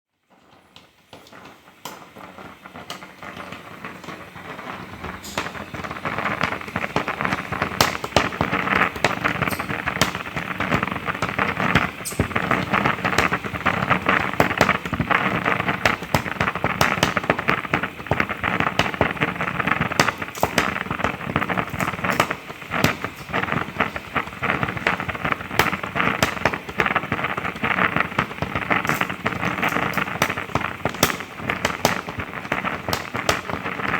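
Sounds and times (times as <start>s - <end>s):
steam hissing and crackling: 0.1s - 33.9s.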